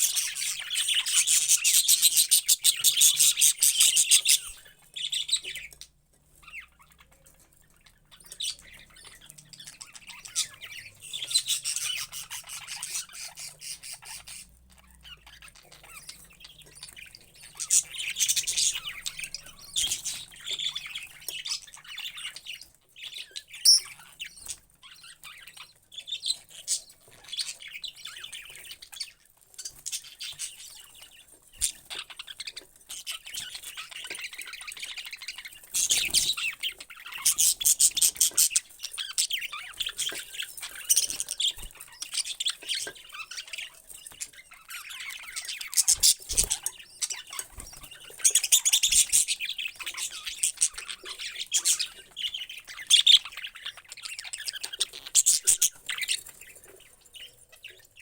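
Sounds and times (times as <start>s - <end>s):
parrots chirping and chattering: 0.0s - 58.0s.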